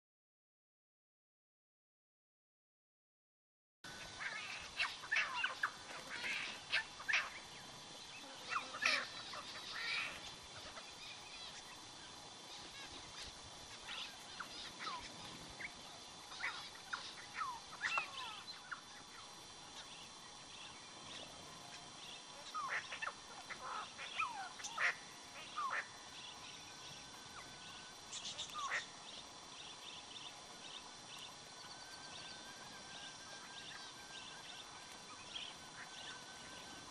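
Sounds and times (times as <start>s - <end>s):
small birds chirping: 3.9s - 36.9s.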